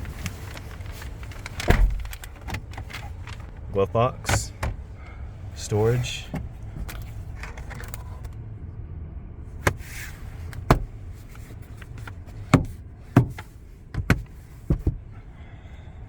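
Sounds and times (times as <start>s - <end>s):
low vehicle hum: 0.0s - 16.0s.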